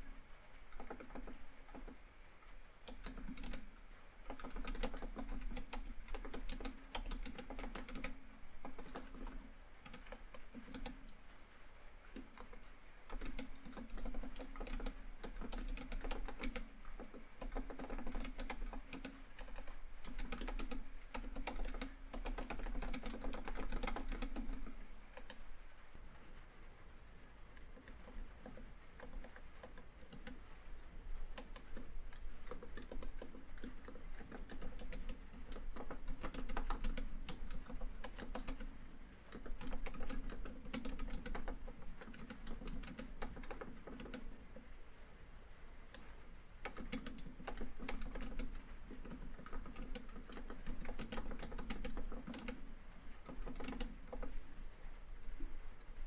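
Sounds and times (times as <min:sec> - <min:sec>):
laptop keyboard typing: 0:00.0 - 0:26.8, 0:27.5 - 0:44.7, 0:45.8 - 0:54.7.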